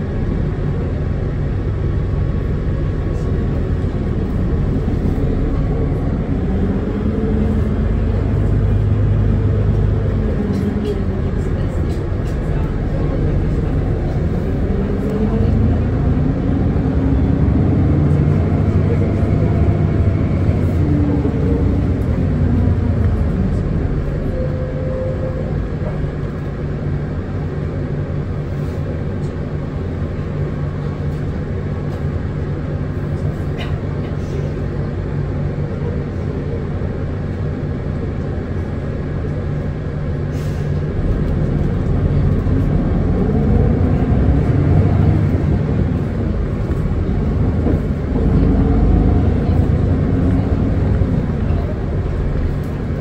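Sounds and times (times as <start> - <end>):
bus interior low hum: 0.0 - 53.0
bus motor whine: 0.0 - 53.0.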